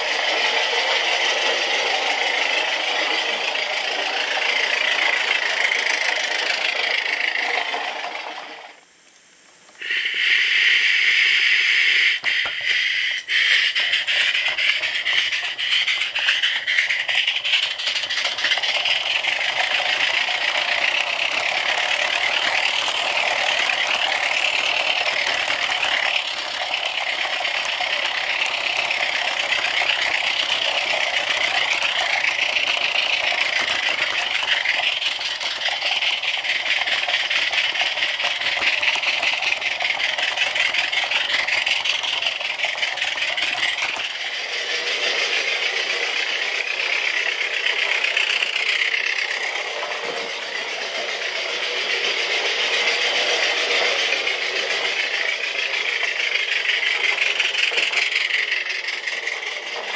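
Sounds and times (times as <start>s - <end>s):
toy train wheels rattling on rails: 0.0s - 8.8s, 9.8s - 59.9s.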